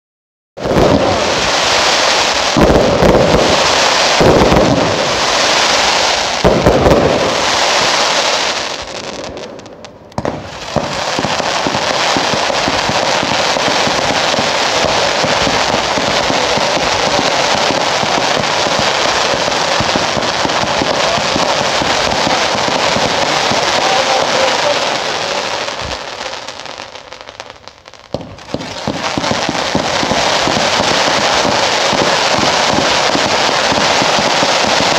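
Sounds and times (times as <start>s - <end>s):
heavy firework booms: 0.6s - 27.5s, 28.1s - 34.9s
fireworks bangs and crackling: 0.6s - 34.9s.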